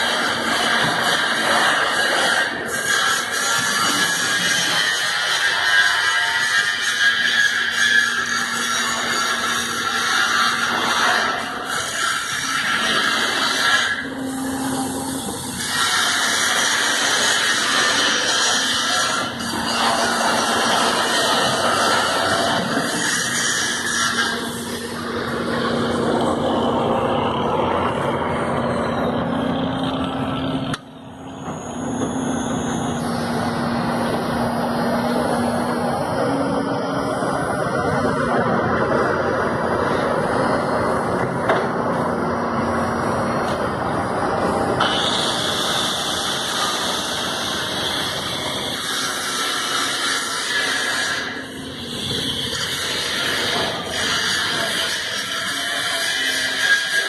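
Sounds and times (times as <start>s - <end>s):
industrial machinery hum: 0.0s - 57.0s.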